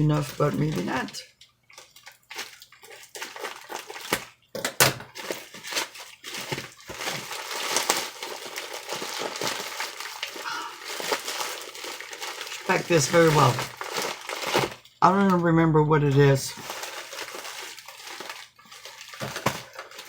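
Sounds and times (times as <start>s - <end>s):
packaging rustling and crinkling: 0.0s - 4.4s, 5.0s - 15.4s, 16.4s - 20.0s.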